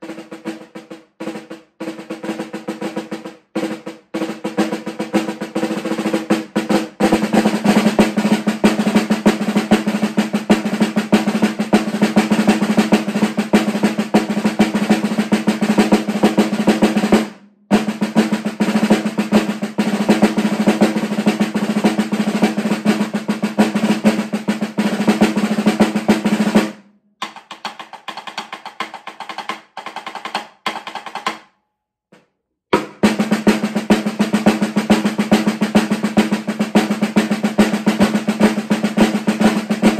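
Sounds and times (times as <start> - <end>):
marching snare drum rolls: 0.0 - 31.4, 32.7 - 39.9.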